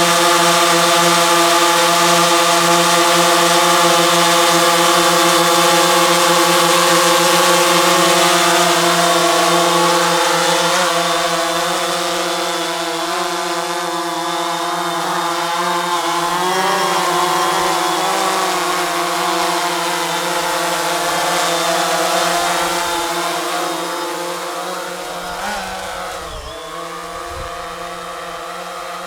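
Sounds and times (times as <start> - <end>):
drone buzzing whine: 5.7 - 29.0.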